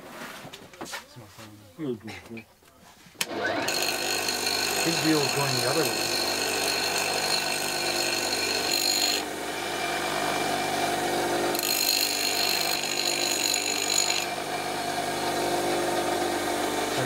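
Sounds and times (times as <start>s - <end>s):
bench grinder motor hum: 3.2s - 17.0s
steel grinding on stone wheel: 3.3s - 17.0s.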